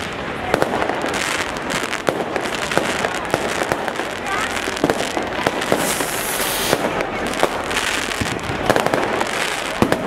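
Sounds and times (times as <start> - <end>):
continuous rushing hiss: 0.0 - 10.0
fireworks popping and banging: 0.0 - 10.0.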